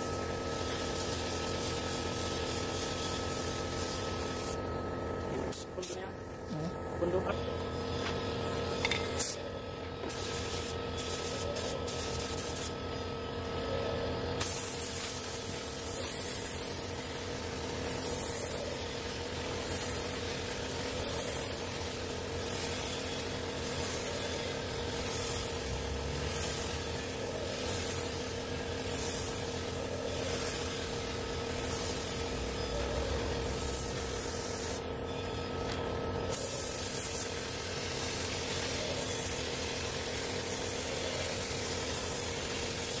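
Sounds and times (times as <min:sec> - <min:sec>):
paint spray gun hissing: 0:00.0 - 0:06.1, 0:07.0 - 0:13.5, 0:14.2 - 0:35.0, 0:36.2 - 0:43.0
steady hum: 0:00.0 - 0:43.0.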